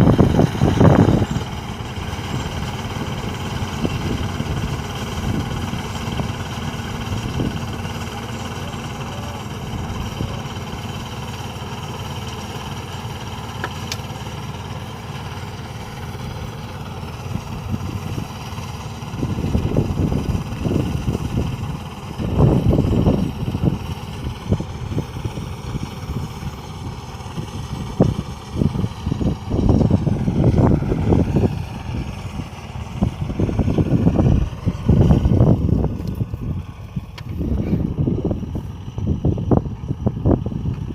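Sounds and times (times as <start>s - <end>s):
harvester engine humming: 0.0s - 40.9s
wind buffeting microphone: 0.0s - 40.9s.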